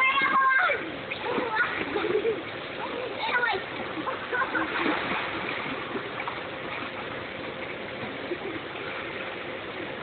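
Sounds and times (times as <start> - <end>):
pool water sloshing: 0.0 - 10.0.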